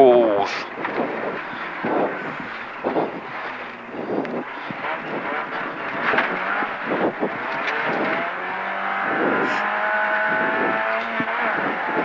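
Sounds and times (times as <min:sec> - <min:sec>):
rally car engine from inside cabin: 0:00.6 - 0:12.0.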